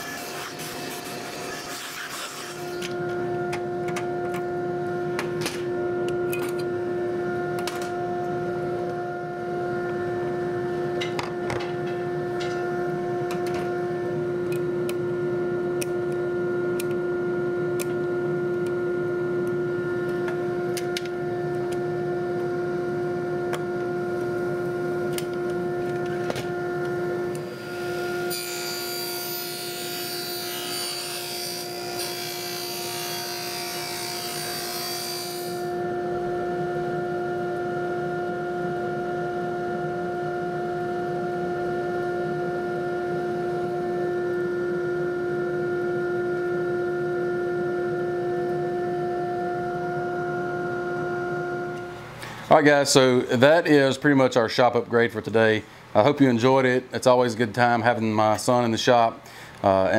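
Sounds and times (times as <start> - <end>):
dust-collection motor humming: 0.0 - 53.1.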